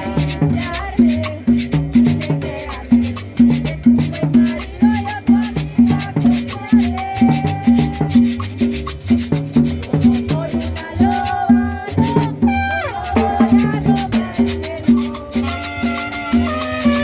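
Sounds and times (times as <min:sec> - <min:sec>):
latin dance music: 0:00.0 - 0:17.0.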